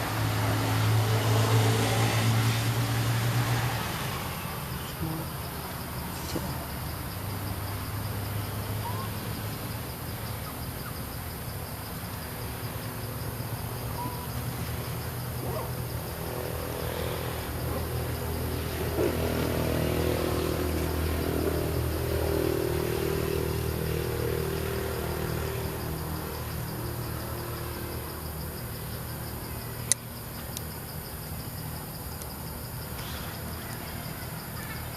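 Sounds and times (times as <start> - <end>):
high insect chirr: 0.1 - 34.9.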